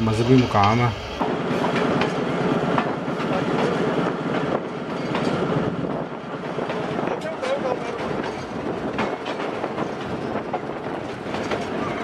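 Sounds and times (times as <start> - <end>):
train rumble: 0.0 - 12.0
wheels clattering over rail joints: 0.0 - 12.0.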